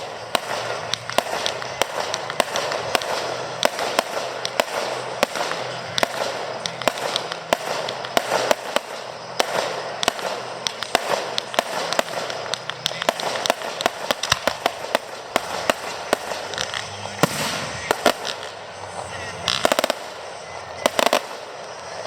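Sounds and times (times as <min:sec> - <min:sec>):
rumble of bursting shells: 0:00.0 - 0:18.6
fireworks bangs: 0:00.0 - 0:22.0.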